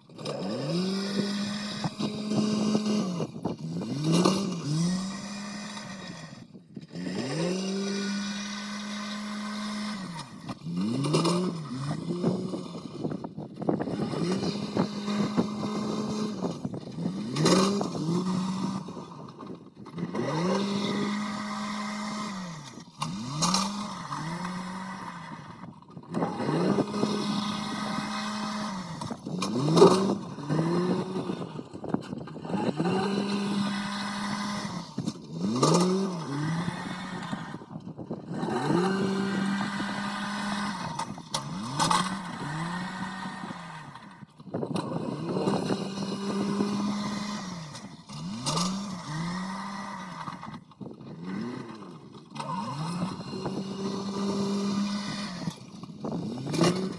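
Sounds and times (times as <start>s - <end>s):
machine engine revving: 0.0s - 56.9s.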